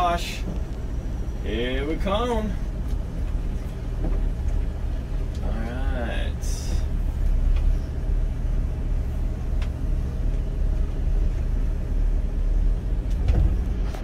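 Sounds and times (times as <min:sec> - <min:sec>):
motorcoach engine low rumble: 0:00.0 - 0:14.0.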